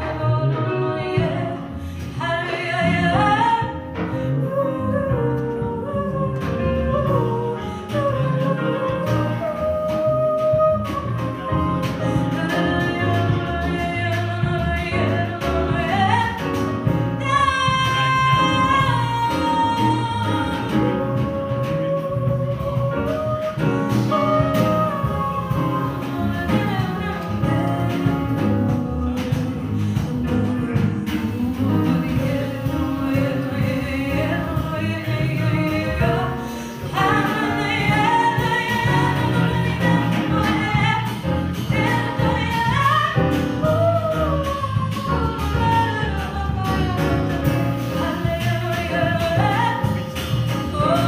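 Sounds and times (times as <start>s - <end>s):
bass: 0.0s - 51.0s
drum kit: 0.0s - 51.0s
piano: 0.0s - 51.0s
woman singing: 0.0s - 51.0s.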